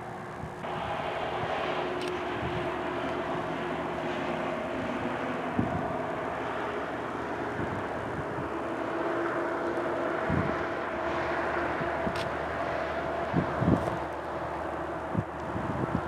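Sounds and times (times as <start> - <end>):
gusting wind: 0.0 - 16.0
mechanical hum: 0.0 - 16.0
wind buffeting microphone: 0.4 - 16.0.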